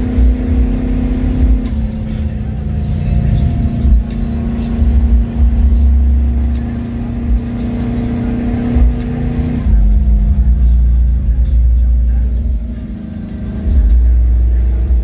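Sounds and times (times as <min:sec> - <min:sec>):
car engine rumbling and droning: 0:00.0 - 0:15.0.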